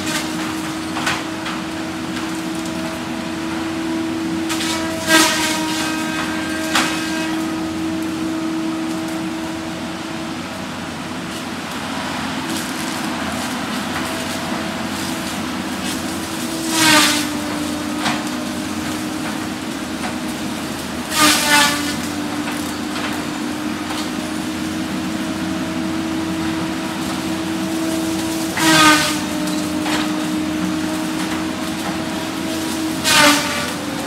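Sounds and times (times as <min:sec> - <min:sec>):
saw grinding through tree: 0:00.0 - 0:09.4, 0:11.4 - 0:34.0.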